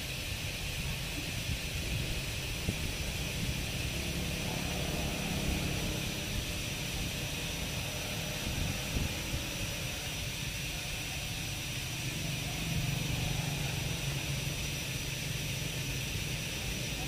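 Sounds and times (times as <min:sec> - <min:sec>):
rotary carving tool whining: 0:00.0 - 0:17.0.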